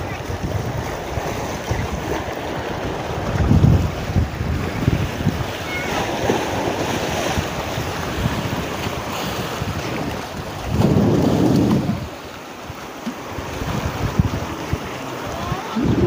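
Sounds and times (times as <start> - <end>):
surf washing on reef: 0.0 - 16.0
wind buffeting microphone: 0.0 - 16.0.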